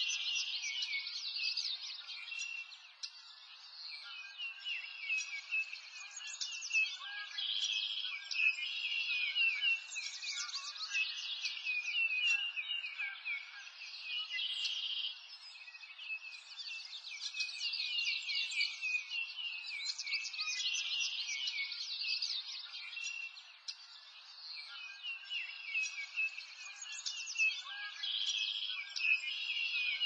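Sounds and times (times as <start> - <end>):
small birds chirping and twittering: 0.0 - 30.0.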